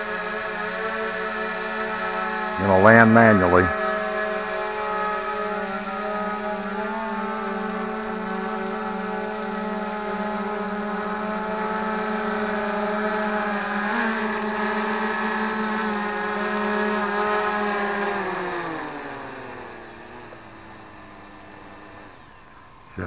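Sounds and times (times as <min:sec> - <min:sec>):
drone propellers whirring: 0:00.0 - 0:23.0.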